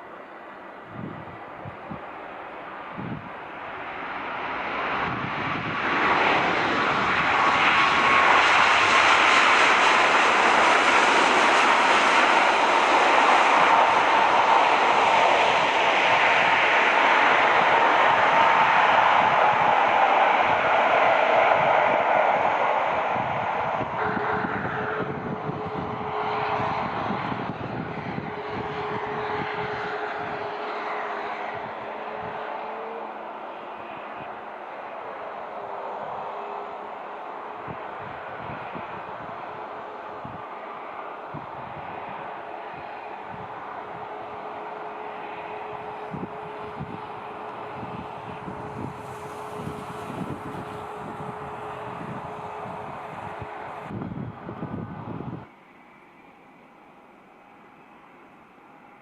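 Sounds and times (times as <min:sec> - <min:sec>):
jet engine rush with whine: 0:00.0 - 0:59.0.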